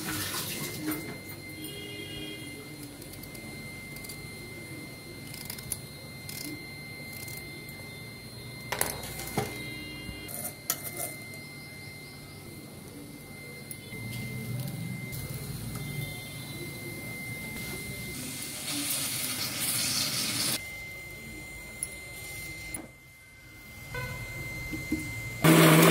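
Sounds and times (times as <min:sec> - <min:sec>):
thin high-pitched whine: 0:00.0 - 0:25.9.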